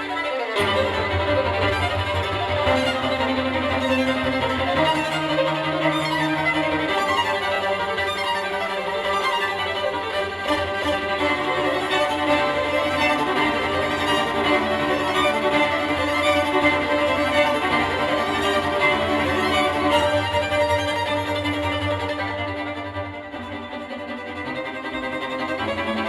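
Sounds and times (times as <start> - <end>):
violin-led string music: 0.0 - 26.0.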